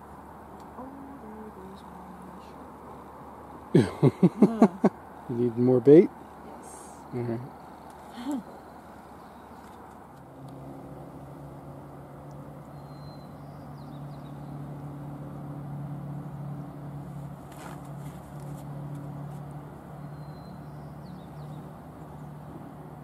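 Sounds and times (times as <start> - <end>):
engine droning hum: 0.0 - 23.0.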